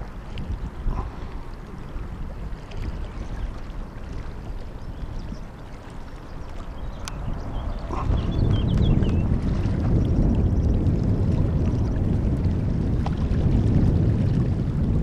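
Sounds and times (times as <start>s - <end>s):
distant jet rumble: 0.0s - 15.0s.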